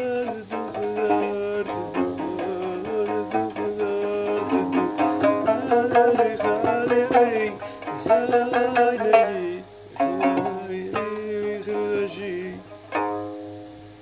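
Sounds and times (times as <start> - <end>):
plucked lute melody: 0.0 - 14.0.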